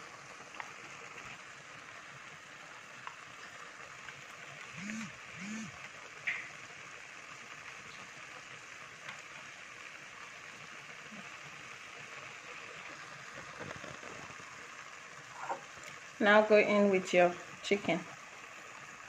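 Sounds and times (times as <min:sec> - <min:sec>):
stew bubbling in a pot: 0:00.0 - 0:19.0.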